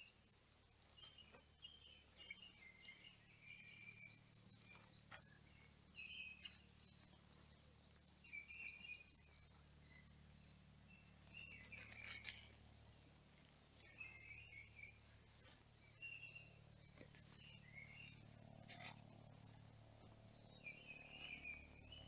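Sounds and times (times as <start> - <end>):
faint songbirds singing: 0.0 - 22.0.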